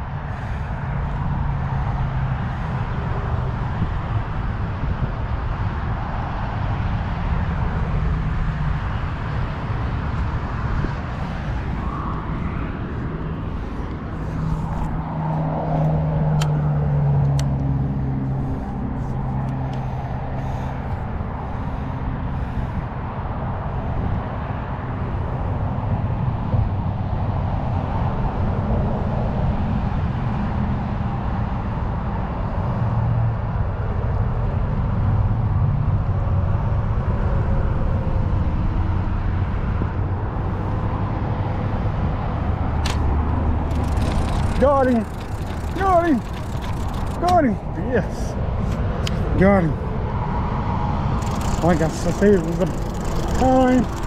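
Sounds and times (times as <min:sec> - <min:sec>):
heavy vehicle engine hum: 0:00.0 - 0:54.0
road traffic rumble: 0:00.0 - 0:54.0.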